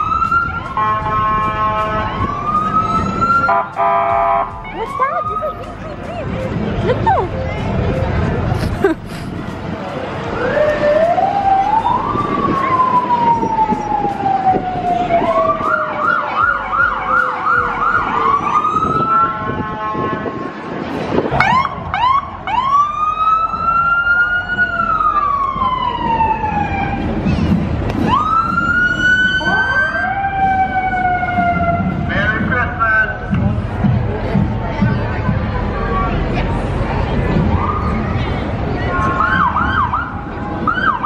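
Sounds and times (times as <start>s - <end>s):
emergency sirens wailing: 0.0s - 33.6s, 35.7s - 41.0s.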